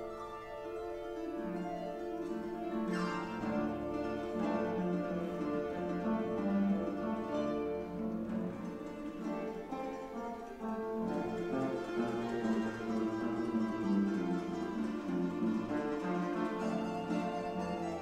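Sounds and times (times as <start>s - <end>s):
harp playing: 0.0s - 18.0s.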